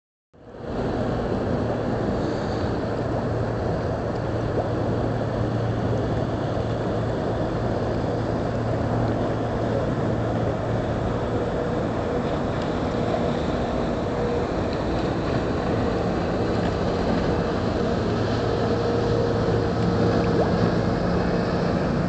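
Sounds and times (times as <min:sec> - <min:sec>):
boat engine droning: 0:00.4 - 0:22.0
water noise: 0:00.4 - 0:22.0
wind noise: 0:00.5 - 0:22.0.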